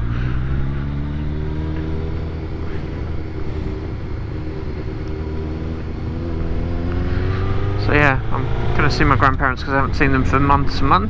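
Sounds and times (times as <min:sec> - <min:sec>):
motorcycle engine cruising: 0:00.0 - 0:11.0
road noise: 0:00.0 - 0:11.0
wind noise: 0:01.4 - 0:11.0.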